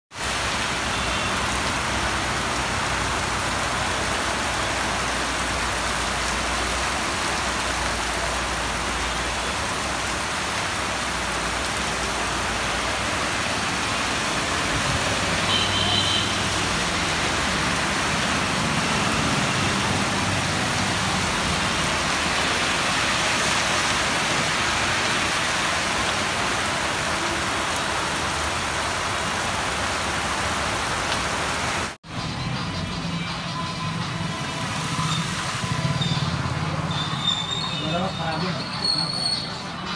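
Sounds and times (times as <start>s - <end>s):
heavy rain on a road: 0.1s - 32.0s, 34.2s - 39.4s
vehicles passing on wet road: 0.1s - 39.9s.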